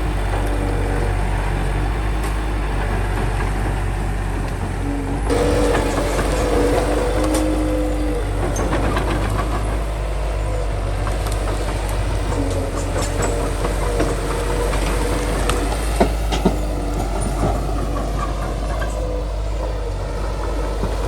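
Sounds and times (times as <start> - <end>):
bulldozer diesel engine running: 0.0 - 21.0
engine whine: 0.0 - 21.0.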